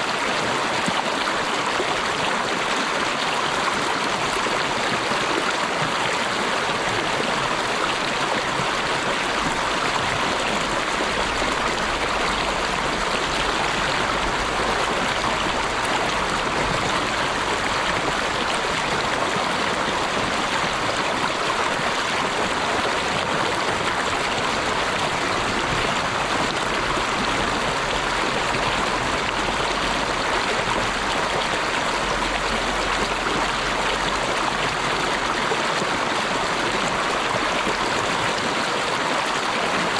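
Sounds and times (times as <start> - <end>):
running water stream: 0.0 - 39.9.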